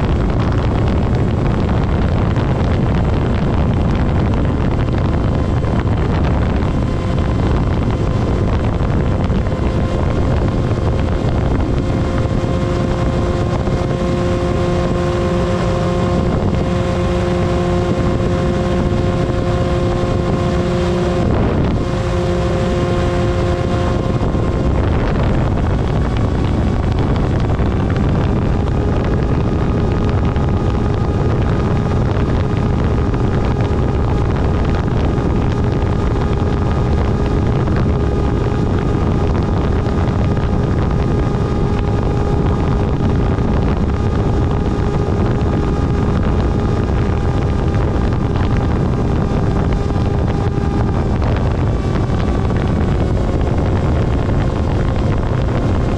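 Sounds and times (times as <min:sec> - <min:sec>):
electric motor and propeller humming: 0:00.0 - 0:55.9
wind rush on microphone: 0:00.0 - 0:55.9.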